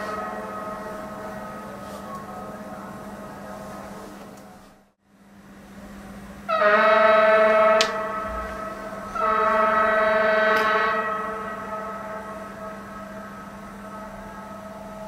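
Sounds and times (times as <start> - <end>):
warning horn blasts: 0.0 - 4.0, 6.4 - 15.0.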